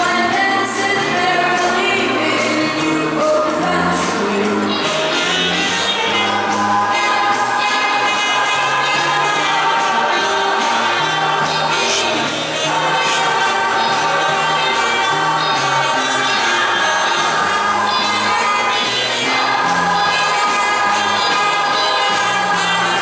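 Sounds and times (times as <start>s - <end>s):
choir singing a carol: 0.0s - 23.0s
instrumental accompaniment: 0.0s - 23.0s.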